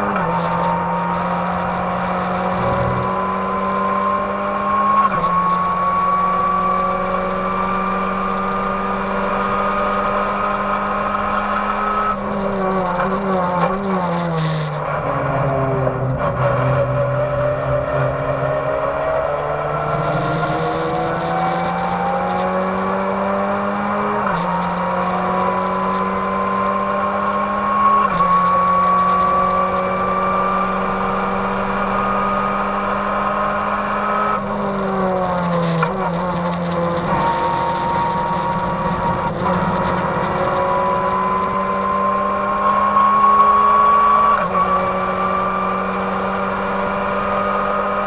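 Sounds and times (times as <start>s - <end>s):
race car engine revving: 0.0s - 48.0s.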